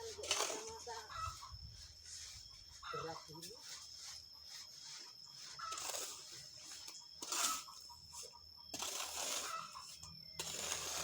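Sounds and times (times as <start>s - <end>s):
sand hissing through sifter: 0.0s - 11.0s.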